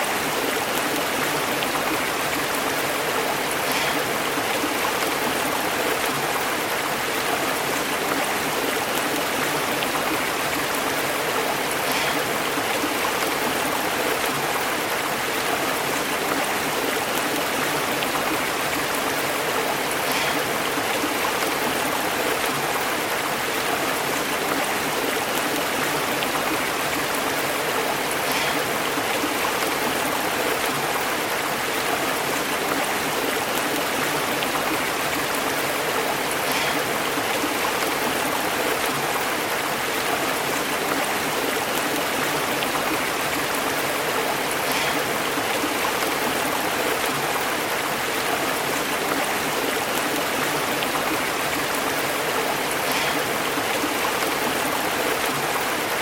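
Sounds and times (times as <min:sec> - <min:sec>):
stream burbling over rocks: 0:00.0 - 0:56.0.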